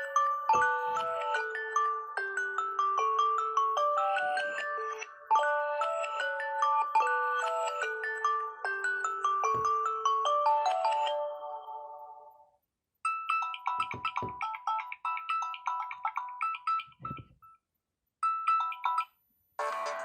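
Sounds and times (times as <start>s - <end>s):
phone ringtone melody: 0.0s - 12.4s, 13.1s - 17.4s, 18.2s - 20.0s
quick chiming ringtone melody: 0.0s - 12.5s, 13.1s - 17.6s, 18.2s - 20.0s.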